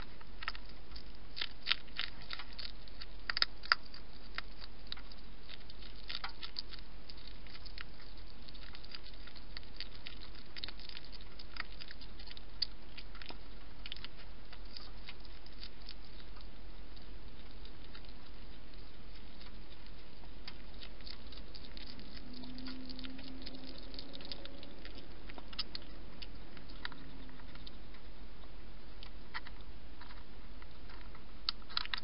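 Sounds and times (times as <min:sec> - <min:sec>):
hedgehog chewing: 0:00.0 - 0:32.0
low electrical hum: 0:00.0 - 0:32.0.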